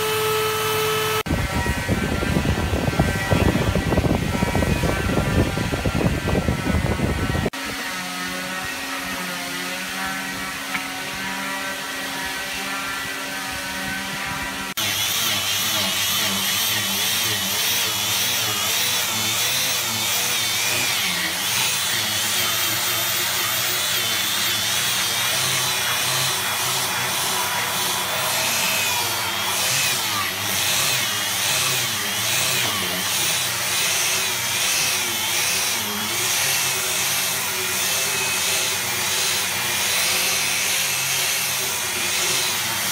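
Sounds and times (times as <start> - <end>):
angle grinder sanding wood: 0.0 - 42.9.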